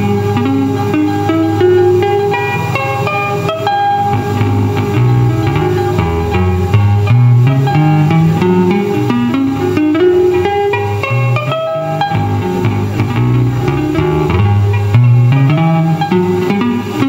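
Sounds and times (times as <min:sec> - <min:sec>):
bass line: 0:00.0 - 0:17.0
plucked guitar notes: 0:00.0 - 0:17.0.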